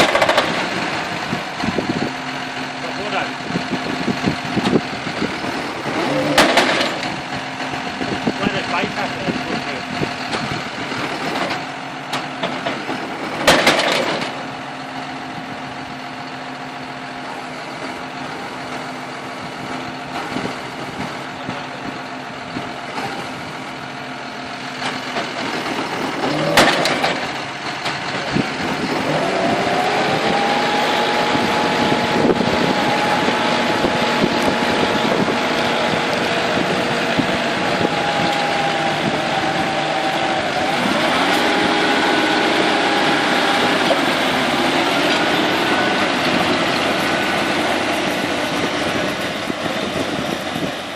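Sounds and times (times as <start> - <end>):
round baler running: 0.0 - 50.9
tractor engine: 0.0 - 50.9.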